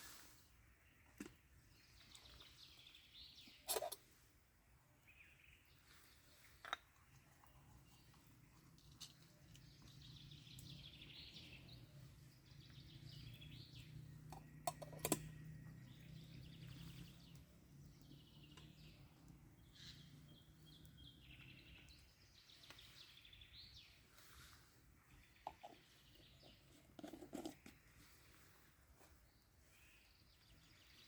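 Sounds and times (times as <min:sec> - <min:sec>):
faint birds chirping: 0:00.0 - 0:31.0.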